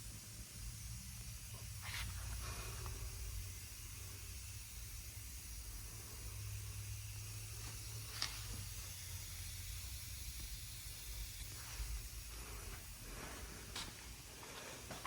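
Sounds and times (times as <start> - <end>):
dry ice blasting nozzle hissing: 0.0 - 13.8.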